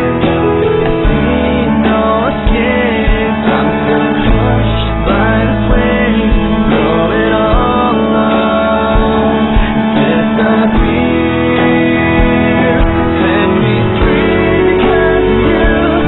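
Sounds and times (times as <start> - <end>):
song with singing: 0.0 - 16.0.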